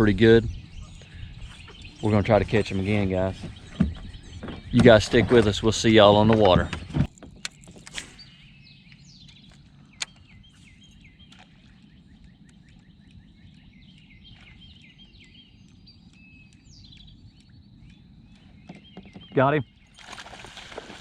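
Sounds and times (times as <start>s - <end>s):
birds chirping: 0.0s - 21.0s
low steady hum: 0.0s - 21.0s.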